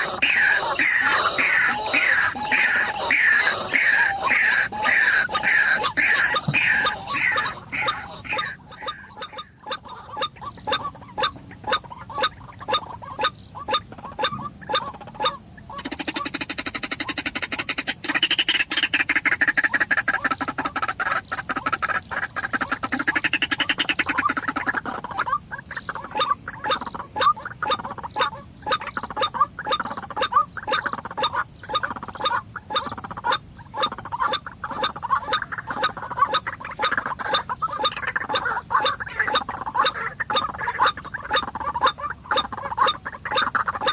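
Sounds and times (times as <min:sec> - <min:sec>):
waterhen calling harsh croaks: 0:00.0 - 0:43.9.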